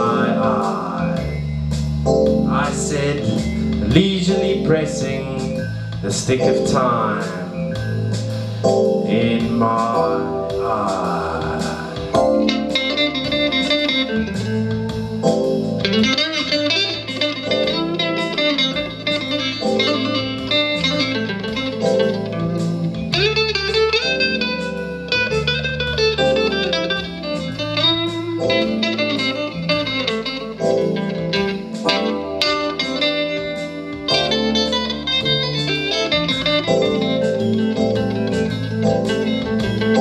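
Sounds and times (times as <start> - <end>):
bass notes: 0.0 - 40.0
electric guitar lead line: 0.0 - 40.0.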